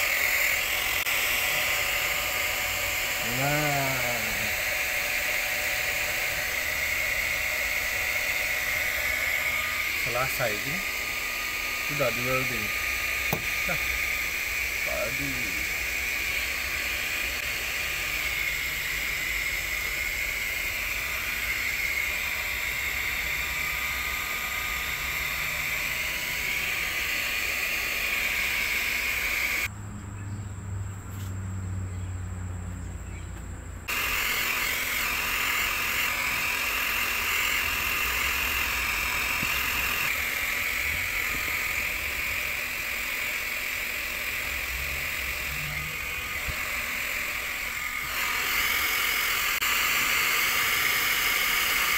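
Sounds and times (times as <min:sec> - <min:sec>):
hot-air welding gun hissing: 0:00.0 - 0:29.7, 0:33.9 - 0:51.9.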